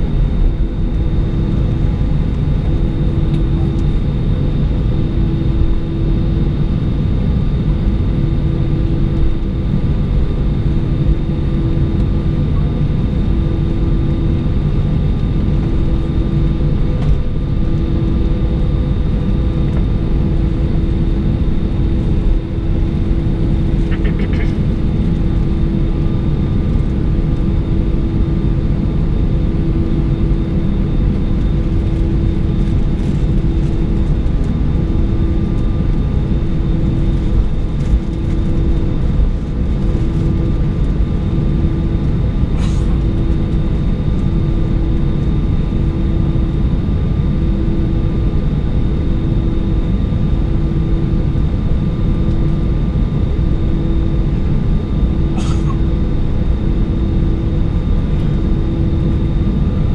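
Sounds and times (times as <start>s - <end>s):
jet engines idling rumble: 0.0s - 59.9s.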